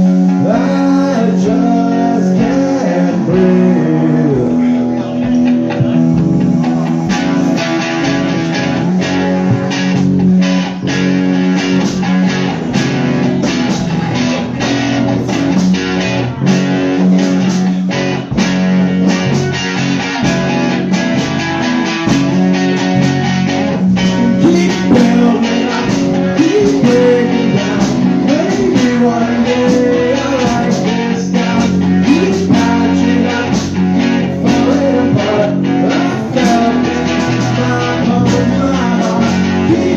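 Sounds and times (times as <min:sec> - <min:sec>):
bass guitar: 0:00.0 - 0:39.9
electric guitar: 0:00.0 - 0:39.9
steady drum beat: 0:00.0 - 0:39.9.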